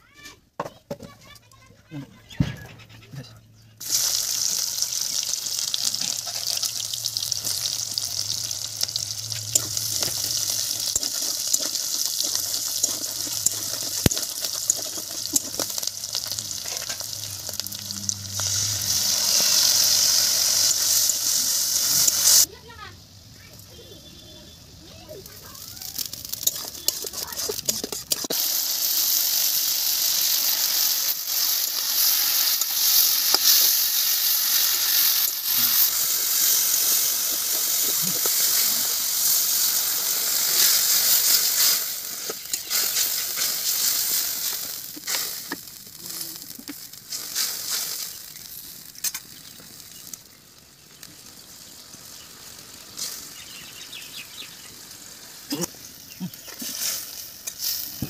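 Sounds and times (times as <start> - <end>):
vegetables sizzling in hot oil: 3.8 - 58.0.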